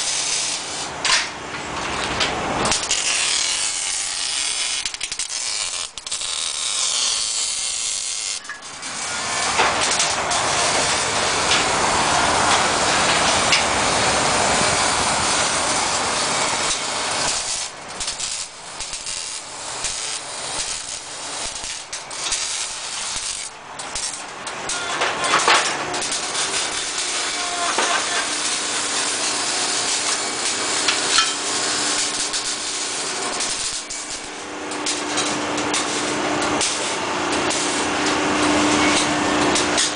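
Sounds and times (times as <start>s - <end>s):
shop tools hissing and rasping: 0.0s - 1.0s, 2.6s - 39.9s.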